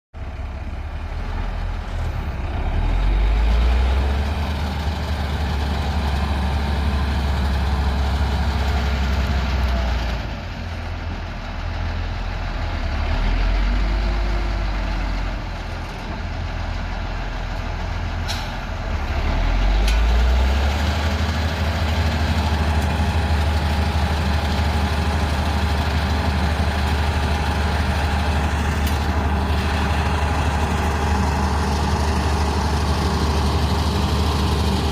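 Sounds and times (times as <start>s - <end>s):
heavy diesel engine droning: 0.2s - 34.9s.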